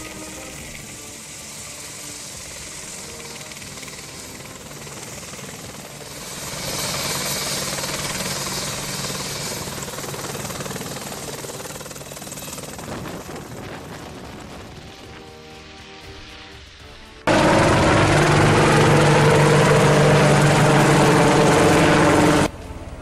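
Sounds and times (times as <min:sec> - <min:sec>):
helicopter flying past: 0:00.0 - 0:16.6, 0:17.2 - 0:23.0.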